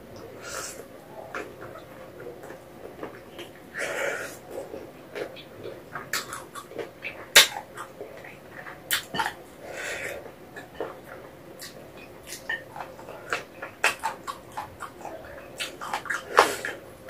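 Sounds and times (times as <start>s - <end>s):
wet chewing and sucking: 0.4s - 16.8s.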